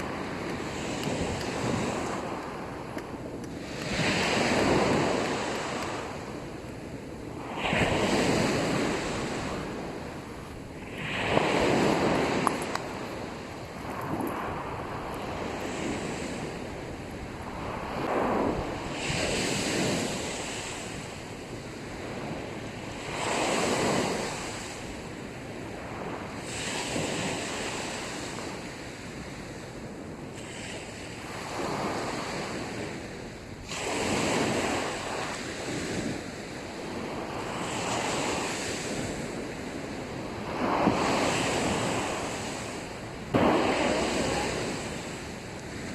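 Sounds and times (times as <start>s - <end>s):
sea waves breaking on beach: 0.0s - 45.9s.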